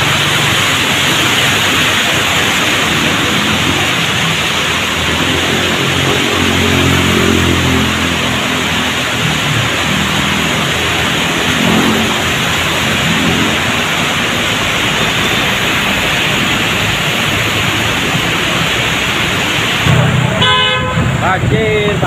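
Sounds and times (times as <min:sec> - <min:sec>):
floodwater rushing: 0:00.0 - 0:22.0
heavy rain pouring: 0:00.0 - 0:22.0
low engine hum of traffic: 0:00.0 - 0:22.0.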